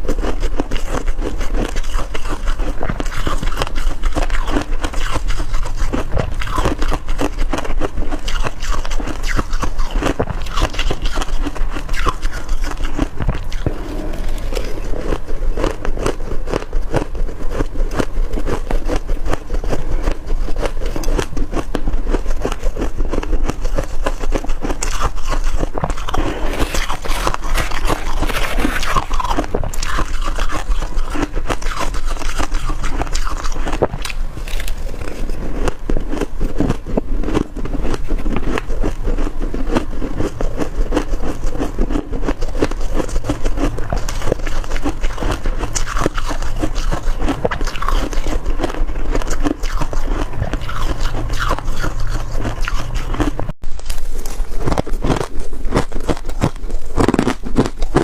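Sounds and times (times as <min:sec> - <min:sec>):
frost being chewed crunching: 0:00.0 - 0:58.0.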